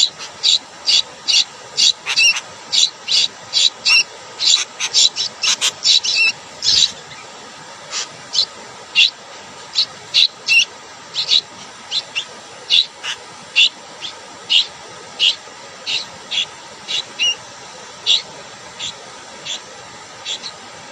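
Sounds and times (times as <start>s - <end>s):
bird chirping: 0.0s - 7.3s, 7.9s - 20.6s
steady hiss: 0.0s - 20.9s.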